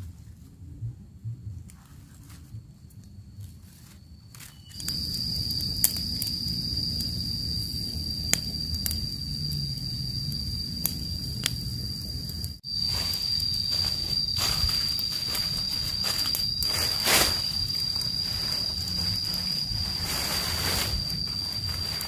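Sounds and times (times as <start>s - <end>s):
campfire crackling: 4.3s - 22.0s.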